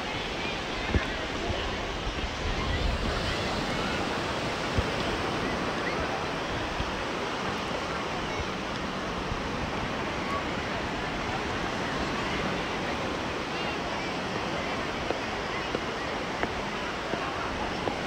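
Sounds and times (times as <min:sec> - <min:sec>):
surf washing onto beach: 0:00.0 - 0:18.0.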